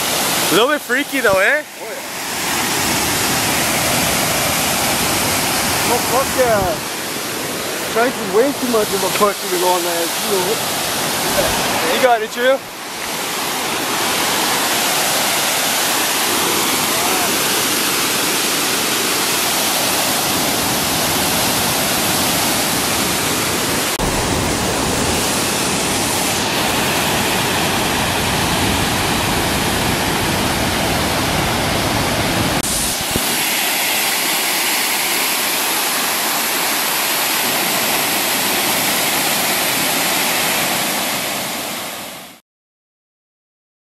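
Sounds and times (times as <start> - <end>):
waterfall rushing: 0.0 - 42.4.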